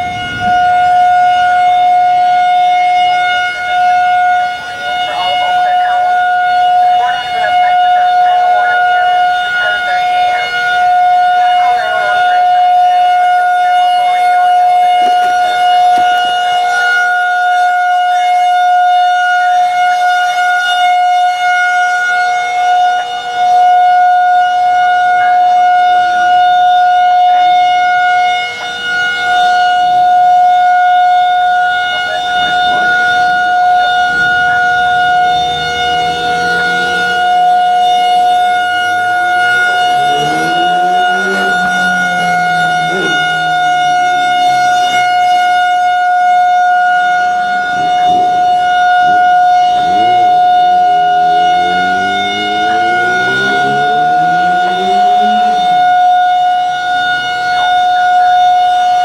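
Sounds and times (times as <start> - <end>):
warning siren steady tone: 0.0 - 59.0.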